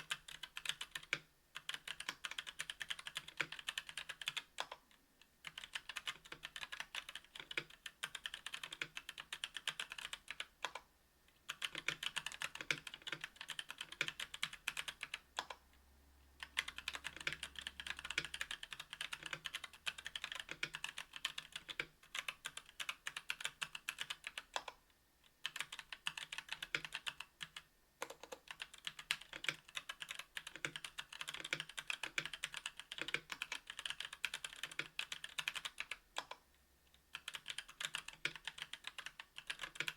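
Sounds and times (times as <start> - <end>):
fast typing on keyboard: 0.0 - 4.8, 5.4 - 10.9, 11.5 - 15.6, 16.4 - 24.8, 25.4 - 36.4, 37.1 - 39.9.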